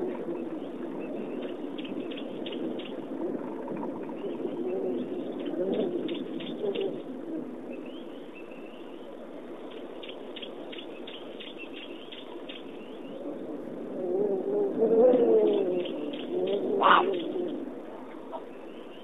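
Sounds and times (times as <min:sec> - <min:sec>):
birds cooing: 0:00.0 - 0:19.0.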